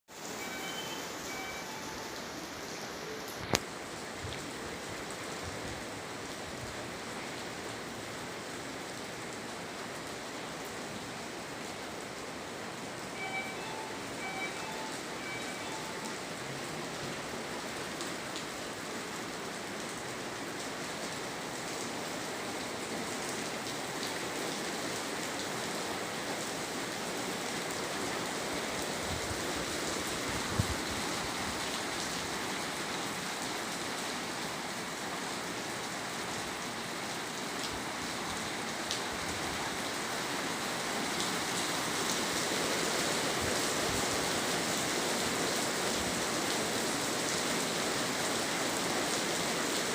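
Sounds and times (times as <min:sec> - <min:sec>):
steady rain falling: 0:00.1 - 0:49.9.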